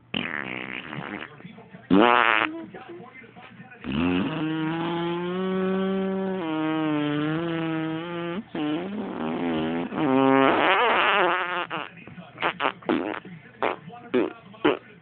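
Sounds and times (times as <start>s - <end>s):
person blowing raspberry with lips: 0.0s - 1.3s, 1.9s - 2.6s, 3.8s - 14.8s.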